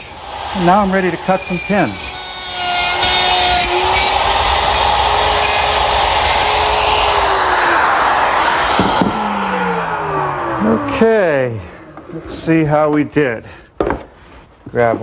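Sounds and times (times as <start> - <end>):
electric router cutting wood: 0.0 - 13.0.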